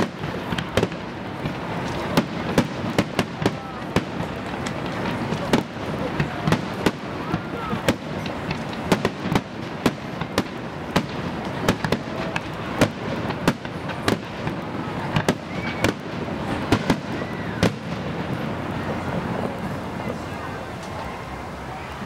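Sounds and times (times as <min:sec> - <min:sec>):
firework shells bursting: 0:00.0 - 0:18.7
rumble and crackle: 0:00.0 - 0:20.1.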